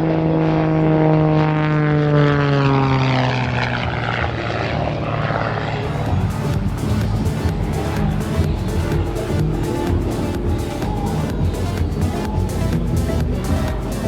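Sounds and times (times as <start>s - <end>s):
aircraft engine and propeller: 0.0s - 14.0s.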